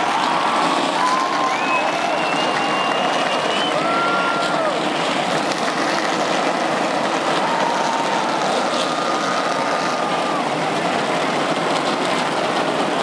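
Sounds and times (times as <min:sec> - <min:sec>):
many race car engines running: 0:00.0 - 0:13.0.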